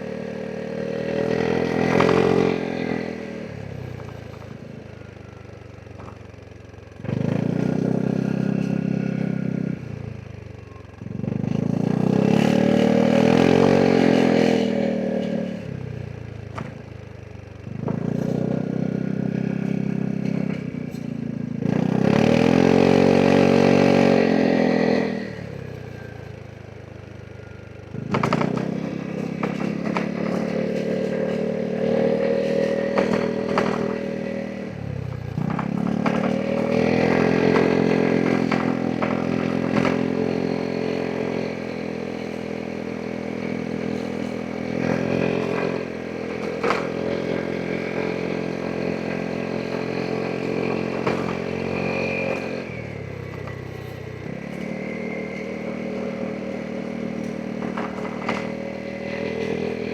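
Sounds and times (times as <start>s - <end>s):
scooter engine accelerating: 0.0s - 59.9s.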